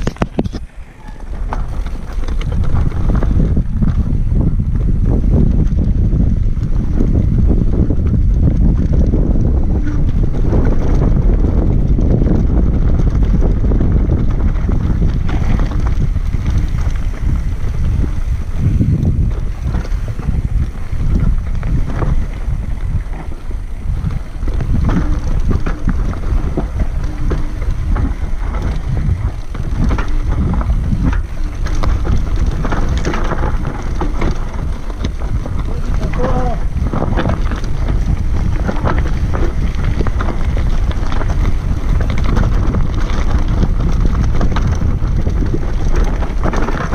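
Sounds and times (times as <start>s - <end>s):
bike clattering over rough trail: 0.0s - 46.9s
bike rolling over gravel: 0.0s - 46.9s
wind buffeting microphone: 0.0s - 46.9s.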